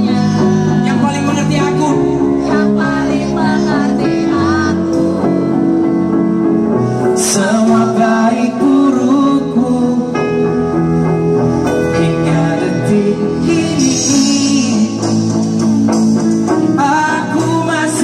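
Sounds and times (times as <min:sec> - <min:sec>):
person singing: 0:00.0 - 0:06.2, 0:07.0 - 0:10.6, 0:11.7 - 0:15.7, 0:16.5 - 0:18.0
live band music: 0:00.0 - 0:18.0.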